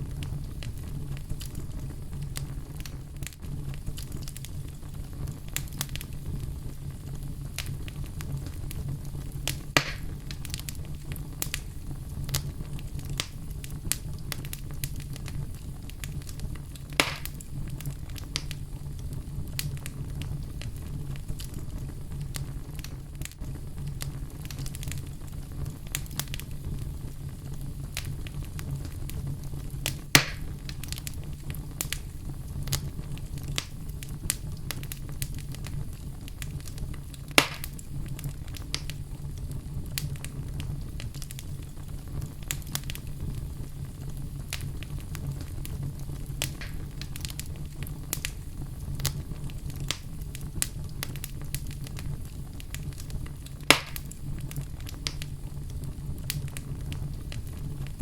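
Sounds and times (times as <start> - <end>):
fire crackling: 0.0 - 58.0
loud fire pops: 0.0 - 58.0
low rumble of flames: 0.0 - 58.0.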